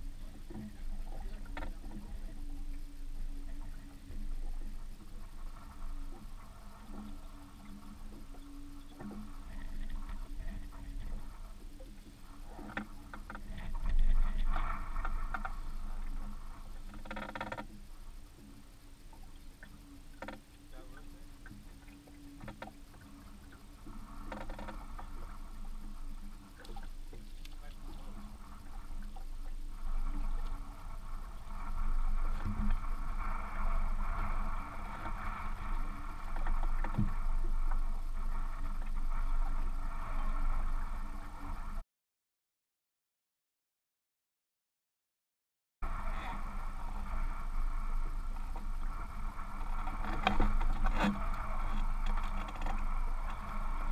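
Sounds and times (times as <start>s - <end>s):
boat running noise: 0.0s - 41.8s, 45.8s - 53.9s
low rumble: 0.0s - 41.8s, 45.8s - 53.9s.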